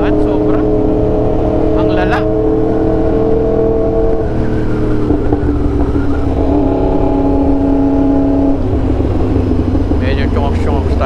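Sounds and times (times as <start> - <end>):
low wind rush: 0.0 - 11.0
motorcycle engine cruising: 0.0 - 11.0.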